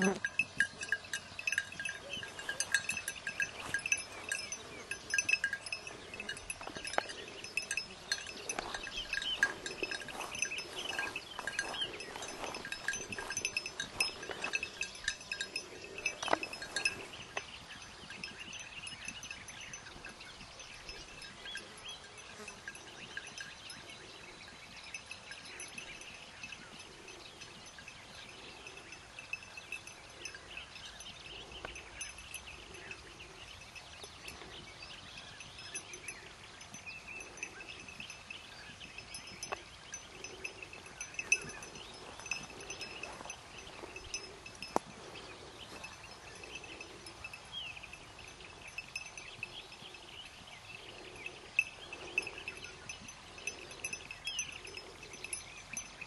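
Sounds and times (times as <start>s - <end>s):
small metal bells jingling: 0.0s - 56.0s.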